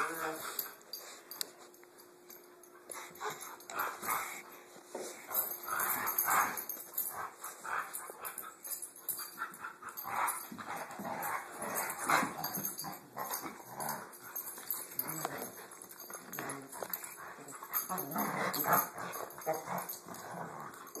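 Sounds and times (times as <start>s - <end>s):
dogs play-fighting vocalizing: 2.9s - 4.5s, 5.2s - 21.0s.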